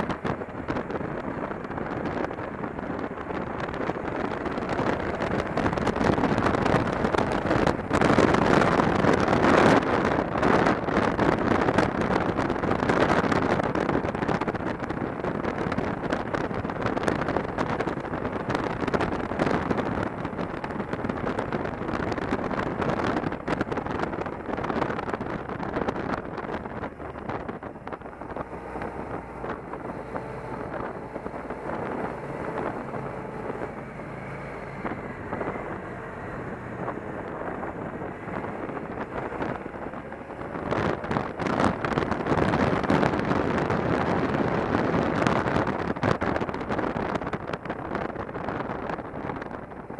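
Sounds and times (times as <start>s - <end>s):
motorcycle engine hum: 0.0s - 49.9s
wind buffeting microphone: 0.0s - 49.9s.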